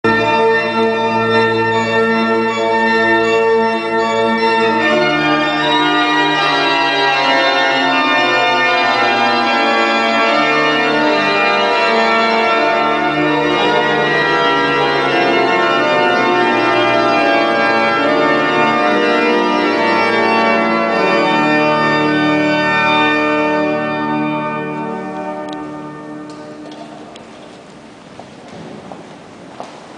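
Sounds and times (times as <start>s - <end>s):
church pipe organ chords: 0.0s - 29.5s.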